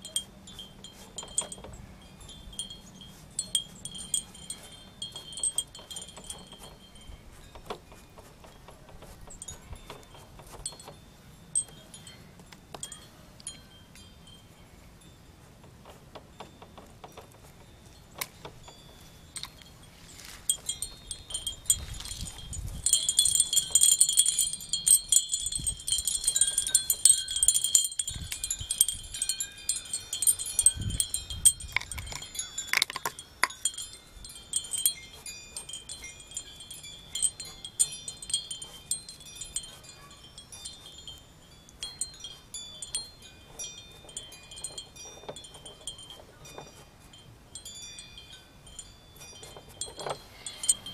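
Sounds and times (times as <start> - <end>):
wind chimes ringing: 0.0 - 50.9.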